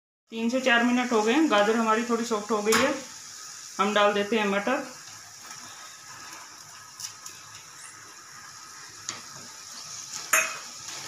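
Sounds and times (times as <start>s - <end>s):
carrots sizzling in a pan: 0.3s - 11.0s.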